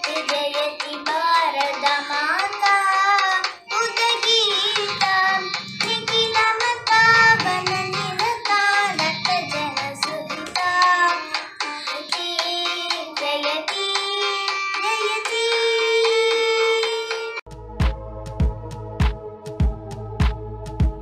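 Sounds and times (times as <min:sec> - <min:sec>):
girl singing: 0:00.0 - 0:17.4
low musical accompaniment: 0:00.0 - 0:21.0.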